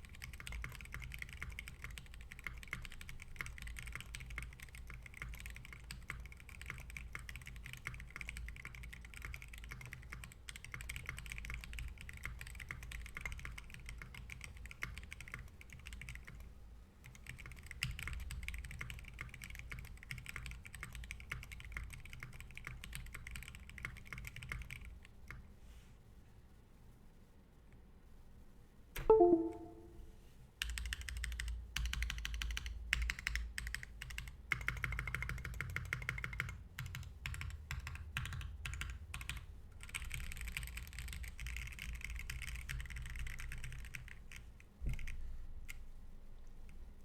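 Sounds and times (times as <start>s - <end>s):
typing on mechanical keyboard: 0.0s - 25.4s, 30.6s - 45.8s.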